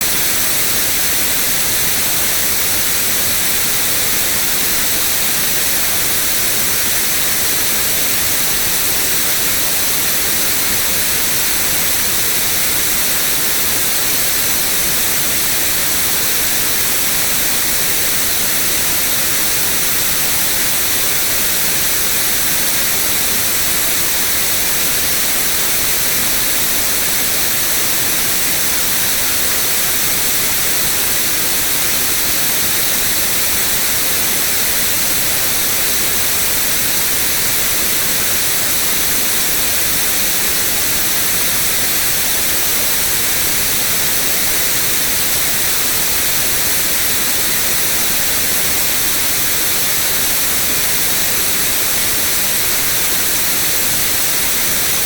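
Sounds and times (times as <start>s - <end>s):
steady white noise hiss: 0.0s - 55.0s.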